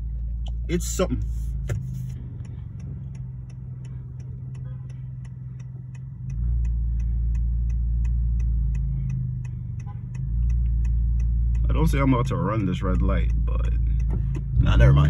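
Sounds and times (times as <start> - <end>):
car engine humming: 0.0 - 15.0
deep low rumble: 0.0 - 15.0
light regular ticking: 0.0 - 15.0.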